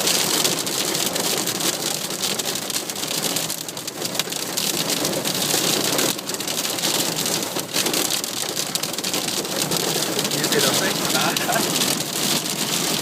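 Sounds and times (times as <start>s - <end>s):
rain drumming on car roof: 0.0s - 13.0s.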